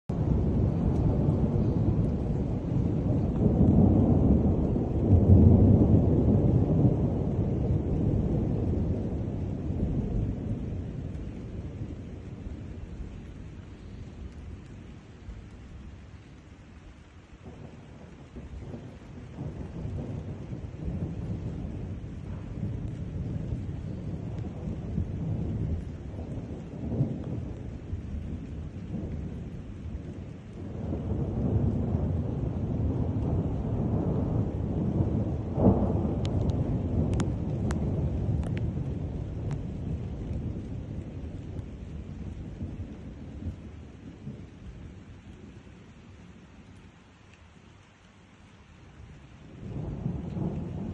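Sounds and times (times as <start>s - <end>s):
steady rain: 0.0s - 50.9s
rolling thunder: 0.1s - 46.9s, 49.1s - 50.9s.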